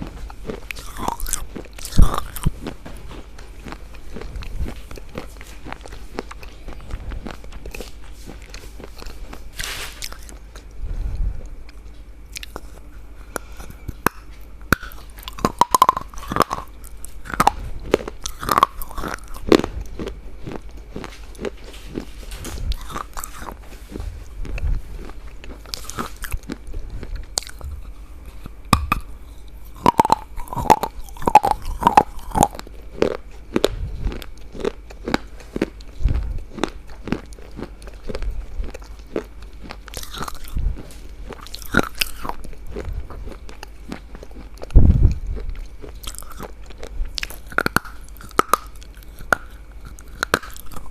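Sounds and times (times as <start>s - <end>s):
person chewing crunchy food: 0.0s - 50.9s.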